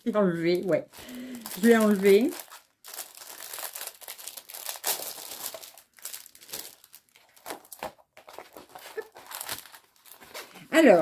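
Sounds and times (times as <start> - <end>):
packaging crinkling: 0.9 - 10.7.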